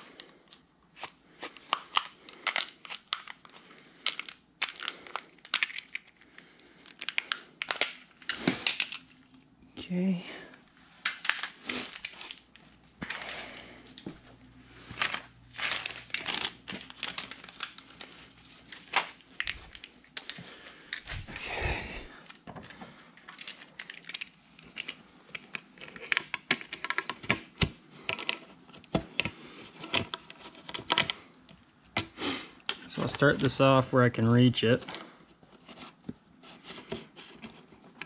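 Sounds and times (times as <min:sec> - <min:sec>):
plastic rustling and crinkling: 0:00.0 - 0:09.5, 0:10.6 - 0:33.8, 0:34.5 - 0:38.0.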